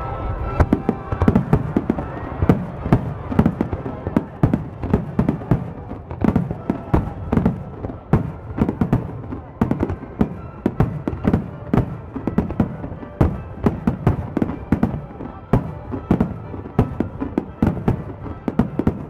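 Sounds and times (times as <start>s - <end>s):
firework shells booming: 0.6s - 19.0s.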